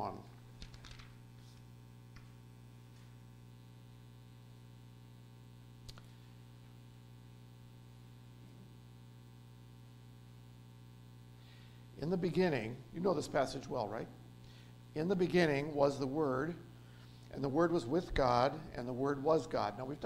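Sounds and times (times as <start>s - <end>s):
mains hum: 0.0s - 20.0s.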